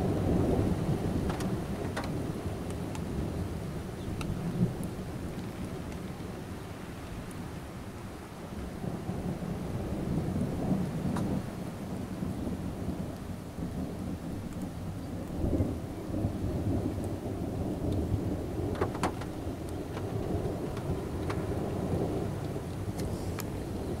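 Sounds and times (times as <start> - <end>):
rain falling: 0.0 - 24.0
raindrops ticking nearby: 0.0 - 24.0
thunder rumbling: 0.0 - 24.0.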